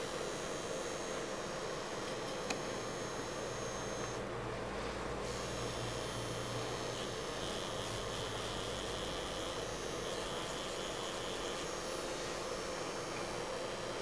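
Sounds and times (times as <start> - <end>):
tattoo machine humming: 0.0 - 4.3, 5.2 - 14.0.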